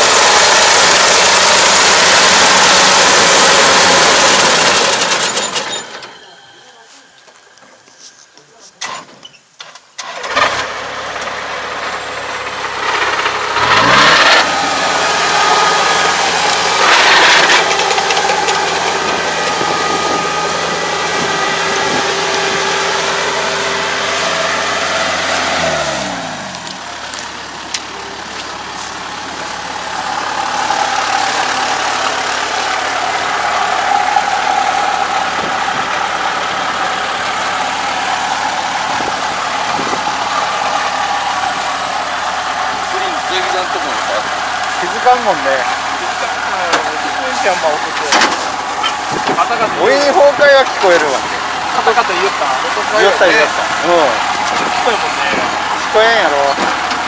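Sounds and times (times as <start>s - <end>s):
loud rushes of noise: 0.0s - 7.6s, 10.0s - 57.0s
combine harvester engine and machinery: 0.0s - 57.0s.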